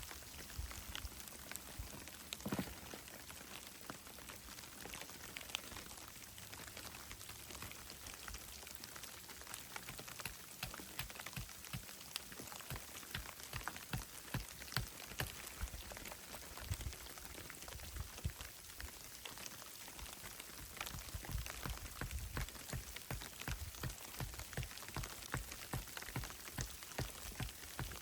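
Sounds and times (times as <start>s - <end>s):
patter of small ticks: 0.0s - 28.0s.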